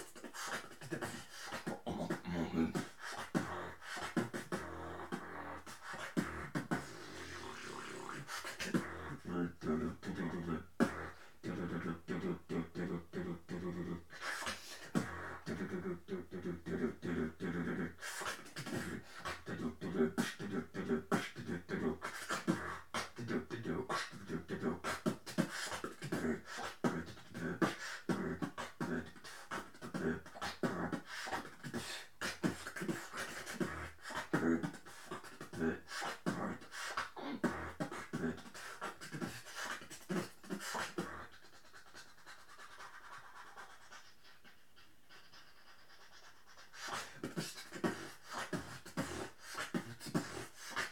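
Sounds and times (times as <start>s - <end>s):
person beatboxing into a microphone: 0.0s - 50.9s.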